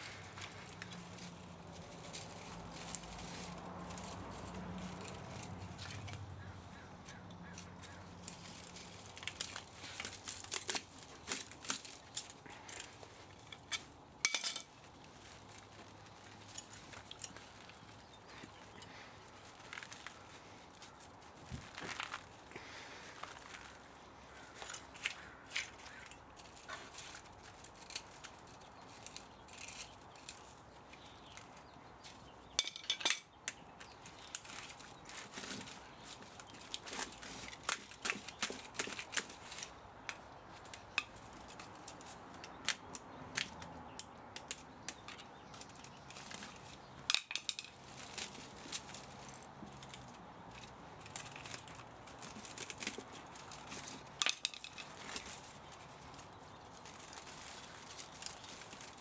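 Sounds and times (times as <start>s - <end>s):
metallic clinks and scrapes of tools: 0.0s - 6.3s, 7.0s - 21.1s, 24.4s - 31.5s, 32.5s - 43.6s, 44.4s - 59.0s.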